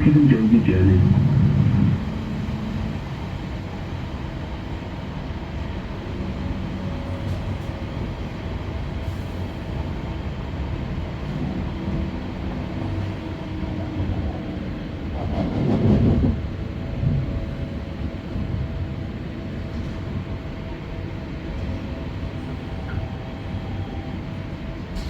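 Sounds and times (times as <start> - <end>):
electric train hum and rumble: 0.0 - 25.0.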